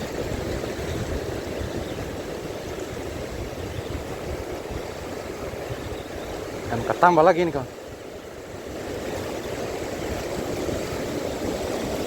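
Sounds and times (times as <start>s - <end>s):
sea water rushing: 0.0s - 12.0s
wind: 0.0s - 12.0s.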